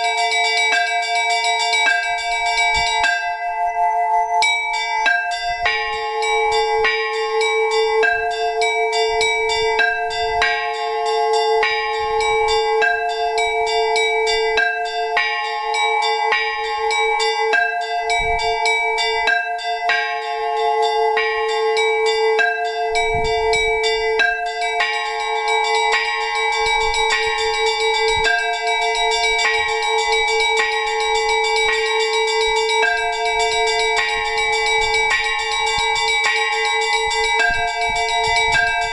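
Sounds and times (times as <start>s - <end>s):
small bells struck rapidly: 0.0s - 3.6s, 4.4s - 38.9s
low bell ringing steadily: 0.0s - 38.9s
deep bell strikes: 4.6s - 38.9s.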